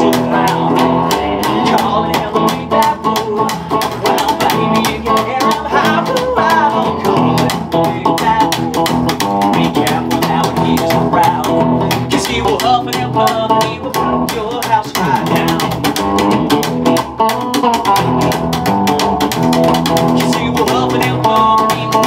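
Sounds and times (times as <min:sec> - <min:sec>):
electric guitar lead: 0:00.0 - 0:22.0
upright bass: 0:00.0 - 0:22.0.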